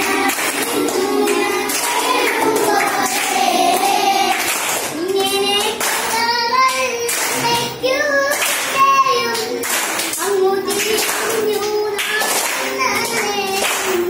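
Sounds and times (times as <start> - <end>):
children clapping hands: 0.0 - 14.0
children singing together: 0.0 - 14.0.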